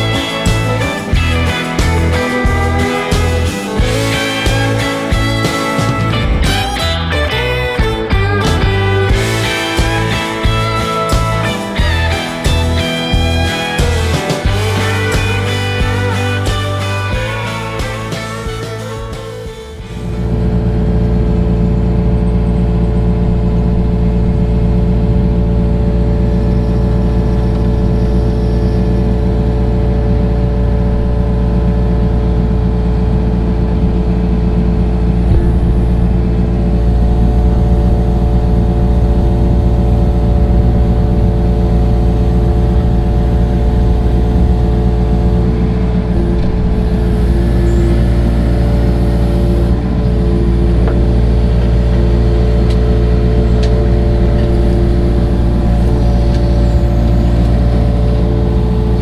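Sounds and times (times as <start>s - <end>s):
heavy equipment engine running: 0.0s - 59.0s
higher engine tone: 0.0s - 59.0s.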